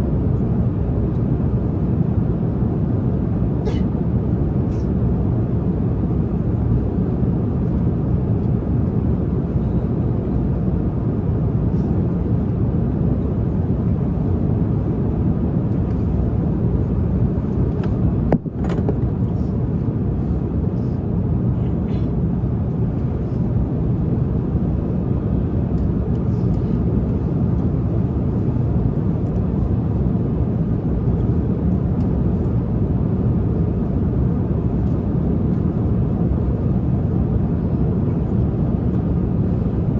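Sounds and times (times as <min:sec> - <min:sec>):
airliner cabin roar: 0:00.0 - 0:39.9.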